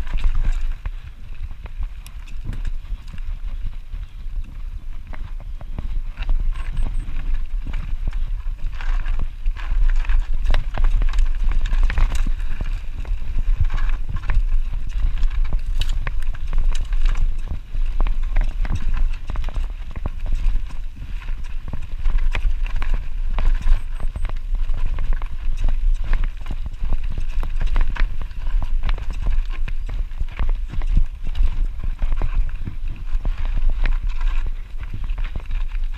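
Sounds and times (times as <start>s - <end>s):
bike rattling over rough trail: 0.0s - 35.9s
wind rumble on microphone: 0.0s - 35.9s.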